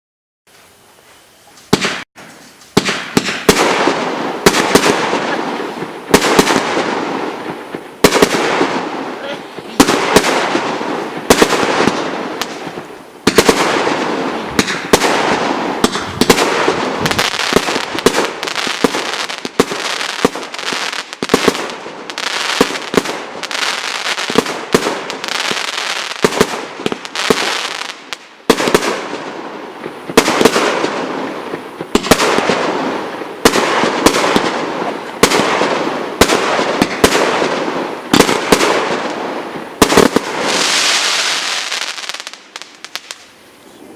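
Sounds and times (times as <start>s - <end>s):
firework cake bangs and crackling: 1.7s - 43.4s.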